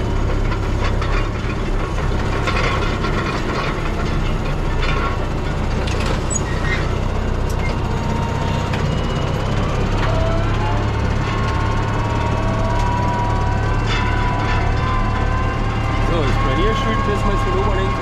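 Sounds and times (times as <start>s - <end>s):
tractor engine hum: 0.0s - 18.0s.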